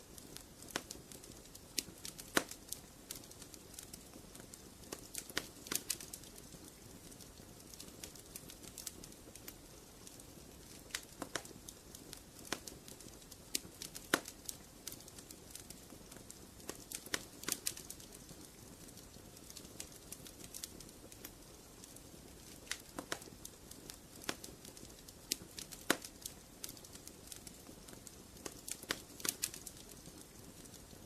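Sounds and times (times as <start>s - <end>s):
low hiss: 0.0s - 31.0s
wood fire crackling and snapping: 0.0s - 31.0s.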